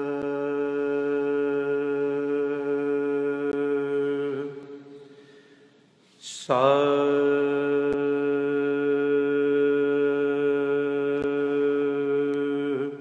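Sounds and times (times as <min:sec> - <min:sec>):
man singing a long note: 0:00.0 - 0:04.9, 0:06.4 - 0:13.0.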